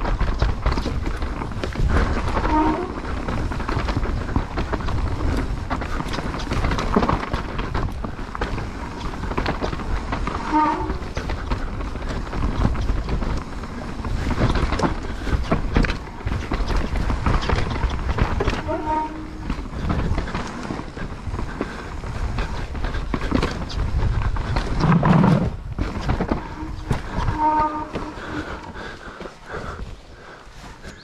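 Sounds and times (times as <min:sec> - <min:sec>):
bike rattling: 0:00.0 - 0:31.0
bike tyres rolling over stones: 0:00.0 - 0:31.0.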